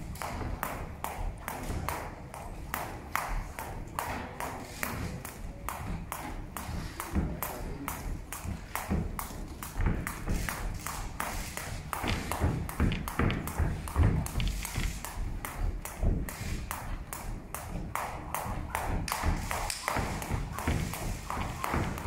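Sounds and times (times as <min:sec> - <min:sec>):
skipping rope slapping canvas: 0:00.0 - 0:22.0.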